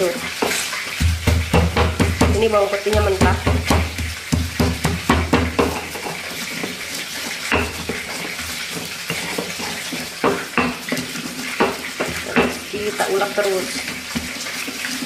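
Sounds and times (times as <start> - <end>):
stone pestle grinding in mortar: 0.4 - 12.6.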